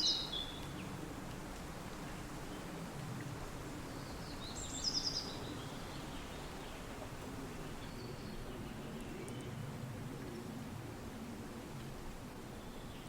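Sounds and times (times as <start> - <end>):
steady wind: 0.0 - 13.0.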